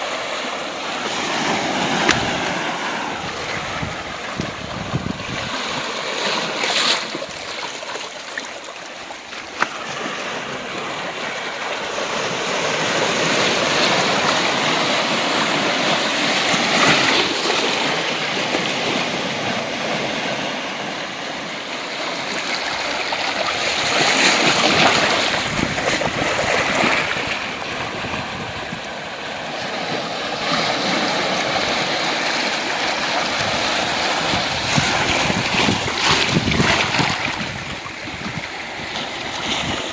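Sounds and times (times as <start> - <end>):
waves washing onto rocky beach: 0.0 - 39.9.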